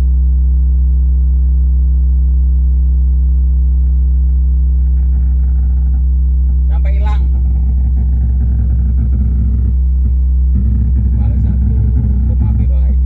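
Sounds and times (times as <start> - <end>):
low bass test tone: 0.0 - 13.0.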